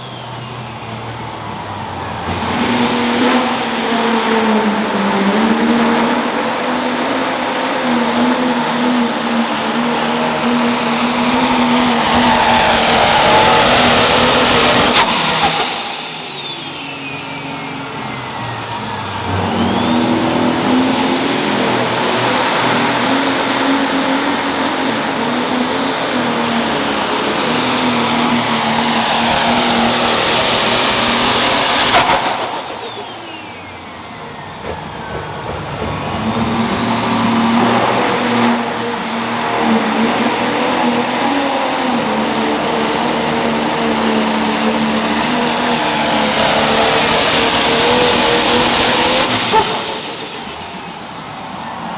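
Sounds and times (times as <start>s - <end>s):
diesel tractor engines at full power: 0.0s - 51.9s
high turbo whistle: 0.0s - 51.9s.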